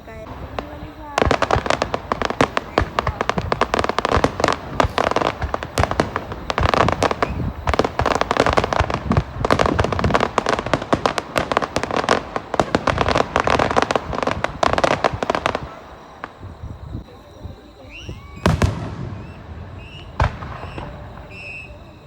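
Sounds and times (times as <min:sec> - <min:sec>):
fireworks bangs and crackling: 0:00.0 - 0:22.0.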